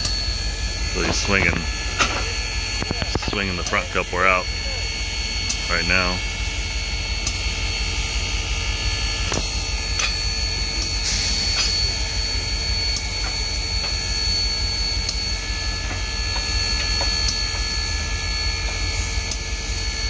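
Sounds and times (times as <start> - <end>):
steady high tone: 0.0 - 17.7
steam locomotive low rumble: 0.0 - 20.0.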